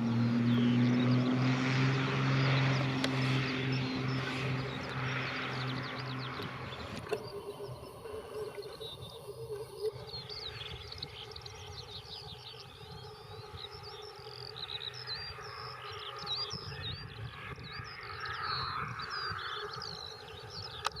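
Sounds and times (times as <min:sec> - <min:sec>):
small birds chirping: 0:00.0 - 0:21.0
wind rumble on microphone: 0:00.0 - 0:21.0.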